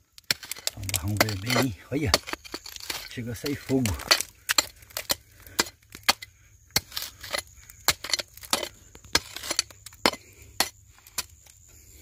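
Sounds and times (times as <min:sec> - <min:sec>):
hand pick striking clay and gravel: 0:00.0 - 0:11.7.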